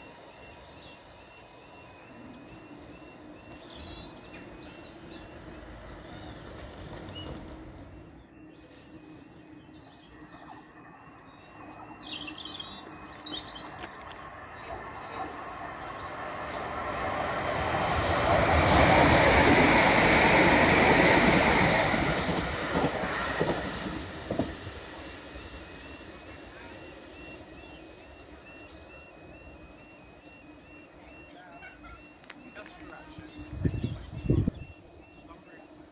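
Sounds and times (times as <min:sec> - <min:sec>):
birds chirping: 0:00.0 - 0:35.9
electric train passing: 0:00.0 - 0:35.9.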